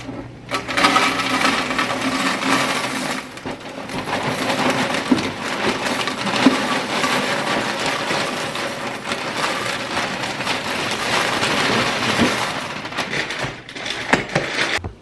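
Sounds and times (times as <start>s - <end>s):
cereal rattling into plastic canister: 0.0s - 14.8s.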